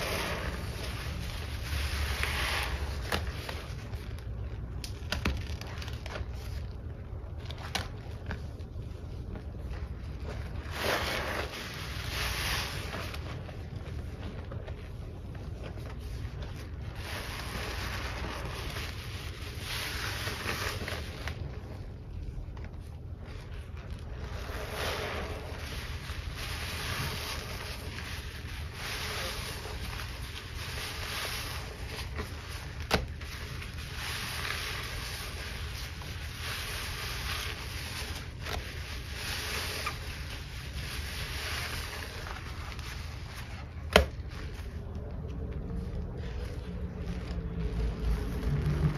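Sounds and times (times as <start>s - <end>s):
sponge squelching in suds: 0.0s - 48.9s
low rumble: 5.5s - 48.9s.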